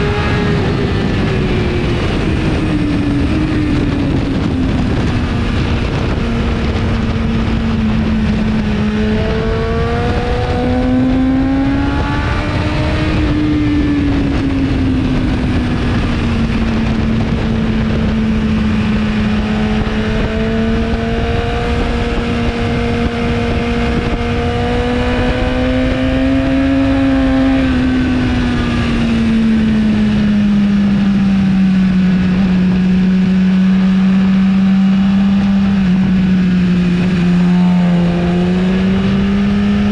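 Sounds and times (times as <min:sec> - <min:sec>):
motorcycle engine revving hard: 0:00.0 - 0:39.9
wind rush: 0:00.0 - 0:39.9.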